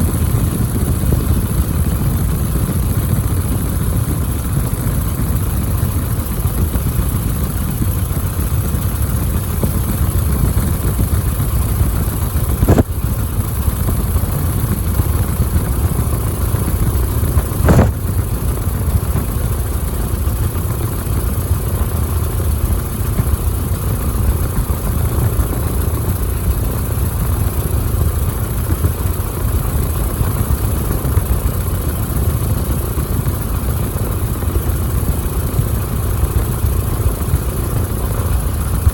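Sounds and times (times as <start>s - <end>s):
biplane engine running: 0.0s - 38.9s.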